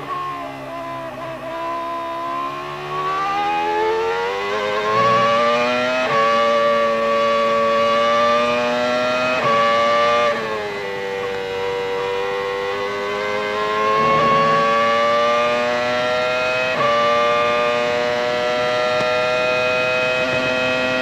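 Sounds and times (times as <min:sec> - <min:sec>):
racing car engine whining: 0:00.0 - 0:21.0
gear change: 0:01.0 - 0:21.0.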